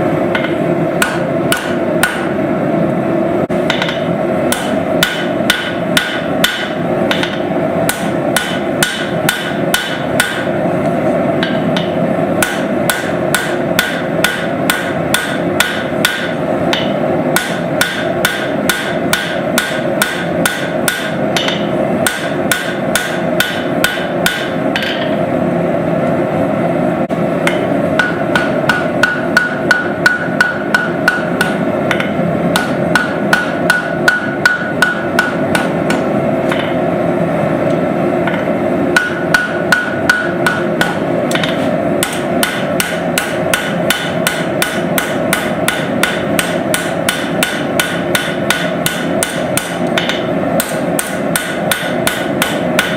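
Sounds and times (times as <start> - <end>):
forging hammer striking anvil: 0.3 - 2.4, 3.7 - 10.6, 11.4 - 25.2, 27.4 - 36.9, 38.2 - 52.9.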